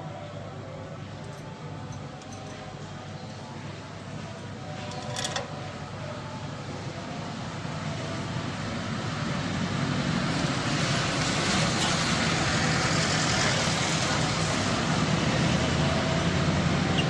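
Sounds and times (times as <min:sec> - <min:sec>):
passing traffic rumbling: 0:00.0 - 0:17.0.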